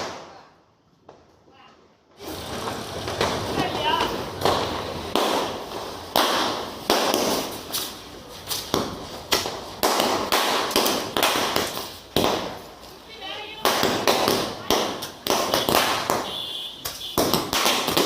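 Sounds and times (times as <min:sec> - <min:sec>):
firecrackers banging: 0:00.0 - 0:18.0.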